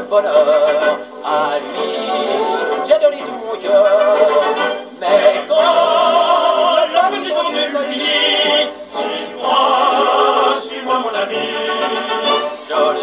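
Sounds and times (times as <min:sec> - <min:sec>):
man singing on old record: 0:00.0 - 0:13.0
record surface hiss: 0:00.0 - 0:13.0
instrumental accompaniment: 0:00.6 - 0:13.0.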